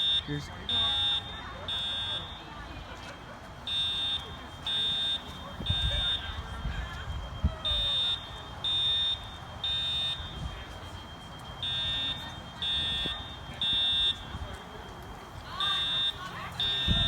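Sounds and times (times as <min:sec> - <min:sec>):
fire alarm horn beeps: 0:00.0 - 0:02.9, 0:03.6 - 0:17.0.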